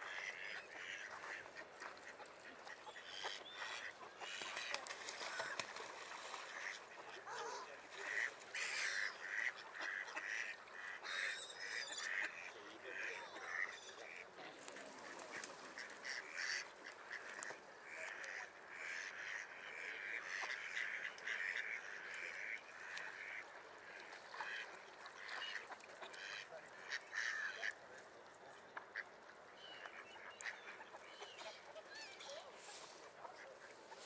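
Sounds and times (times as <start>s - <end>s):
ducks quacking: 0.0s - 34.0s.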